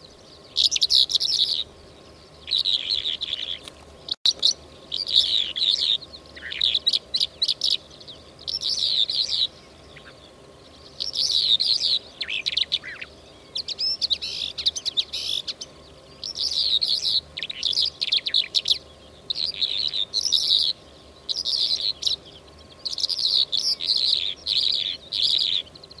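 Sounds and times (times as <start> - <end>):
lark twittering: 2.4 - 3.7, 4.3 - 26.0.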